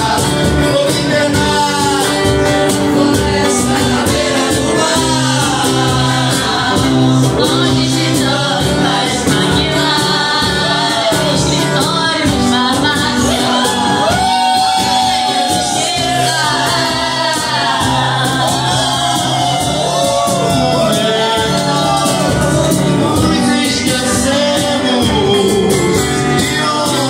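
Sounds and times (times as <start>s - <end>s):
bass notes: 0.0s - 27.0s
drum beat: 0.0s - 27.0s
person singing: 0.0s - 27.0s.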